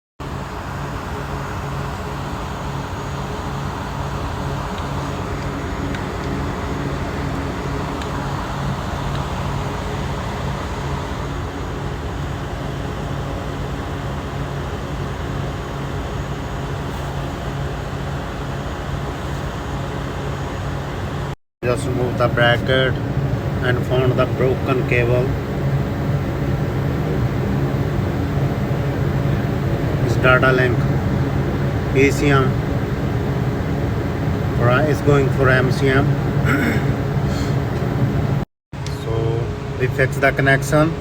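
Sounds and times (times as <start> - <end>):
machine humming: 0.2 - 41.0.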